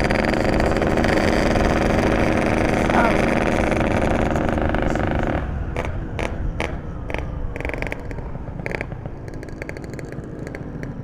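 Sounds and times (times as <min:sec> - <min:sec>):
engine crackles: 0:00.0 - 0:11.0
two-stroke motorcycle engine: 0:00.0 - 0:11.0.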